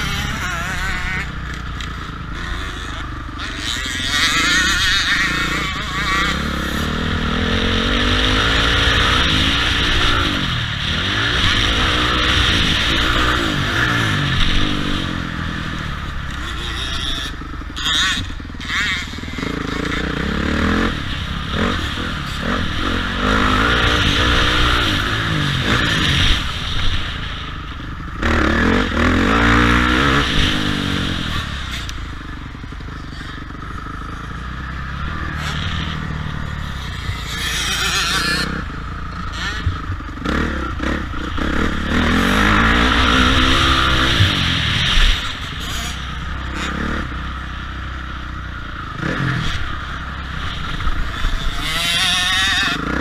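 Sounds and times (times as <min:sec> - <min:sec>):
motocross engines revving: 0:00.0 - 0:53.0.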